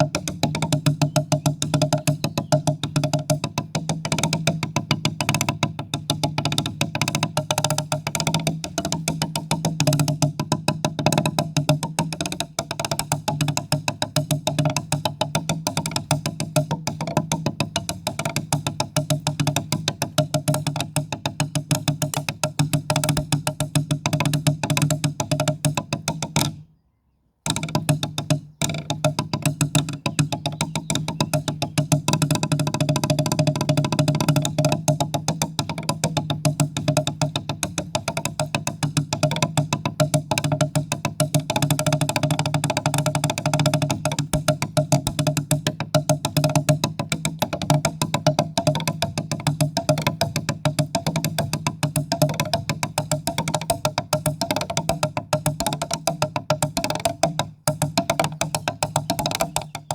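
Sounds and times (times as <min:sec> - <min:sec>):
rapid struck percussion notes: 0:00.0 - 0:26.6, 0:27.5 - 0:59.9.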